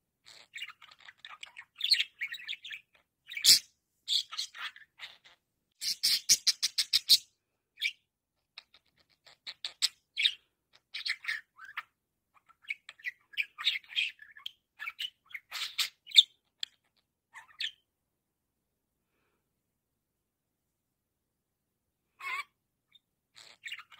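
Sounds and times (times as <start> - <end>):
budgerigar chirping and chattering: 0.2 - 17.8, 22.2 - 23.9.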